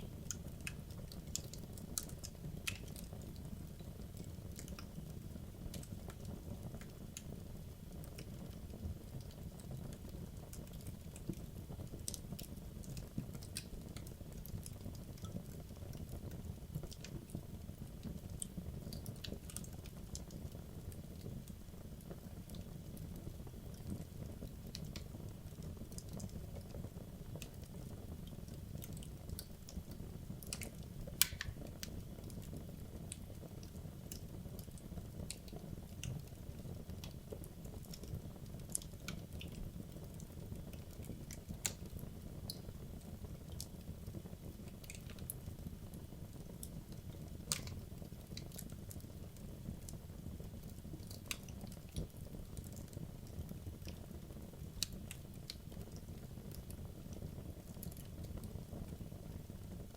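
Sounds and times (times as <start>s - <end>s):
fire crackling and popping: 0.0s - 59.9s
low rumble of flame: 0.0s - 59.9s.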